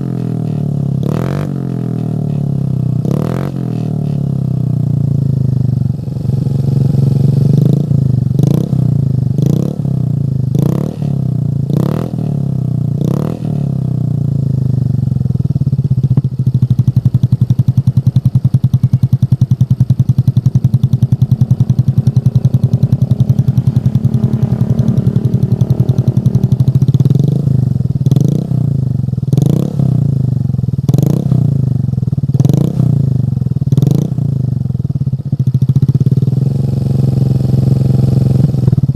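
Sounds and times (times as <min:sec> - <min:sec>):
motorcycle idling and revving: 0:00.0 - 0:38.9.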